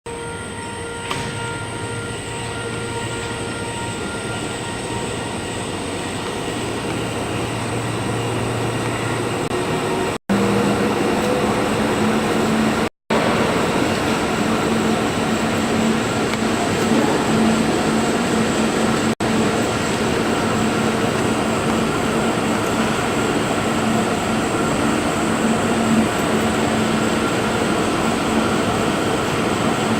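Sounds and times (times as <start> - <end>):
whining tones: 0.1 - 29.9.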